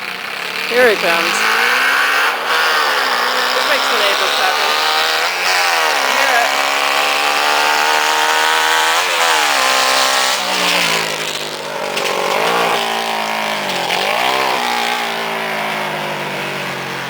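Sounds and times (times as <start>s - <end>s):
lawn mower engine revving: 0.0s - 17.0s.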